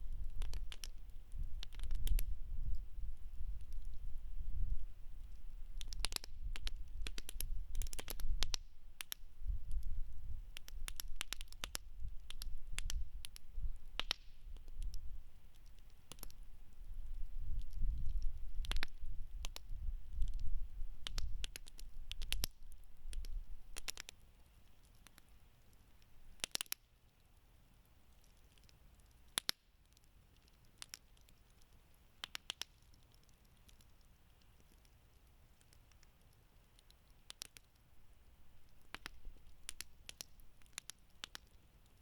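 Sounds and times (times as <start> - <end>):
campfire crackling: 0.0 - 42.0.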